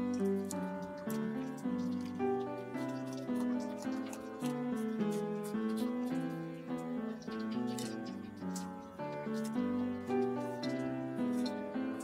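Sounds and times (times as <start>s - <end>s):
gentle melody of held notes: 0.0s - 12.0s.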